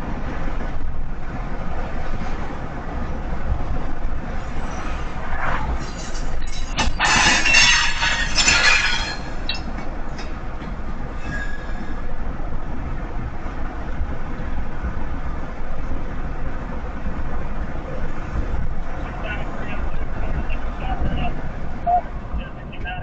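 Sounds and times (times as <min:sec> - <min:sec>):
low road rumble: 0:00.0 - 0:23.0
train cars rolling on rails: 0:00.0 - 0:23.0.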